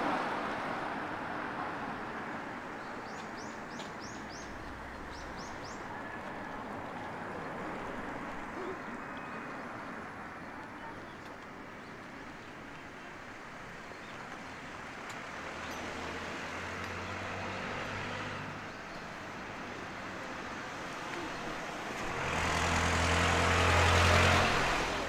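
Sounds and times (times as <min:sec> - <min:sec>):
vehicles passing on road: 0:00.0 - 0:25.0.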